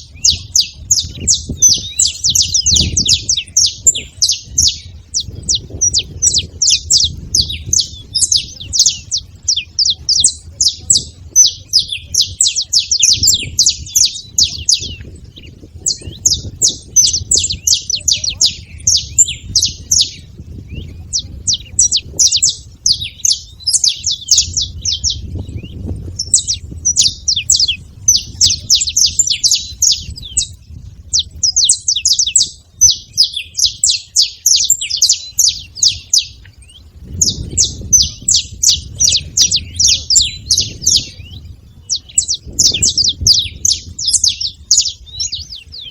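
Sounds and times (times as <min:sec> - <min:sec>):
finches chirping: 0:00.0 - 0:45.9.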